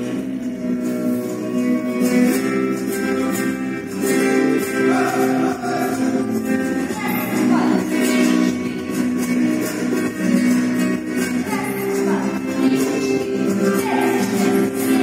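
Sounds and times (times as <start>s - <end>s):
flamenco guitar music: 0.0s - 15.0s.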